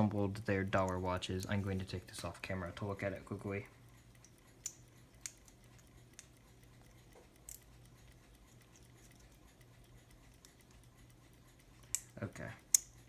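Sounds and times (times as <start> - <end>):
faint clicks of watch movement: 0.0 - 13.0
low steady hum: 0.0 - 13.0.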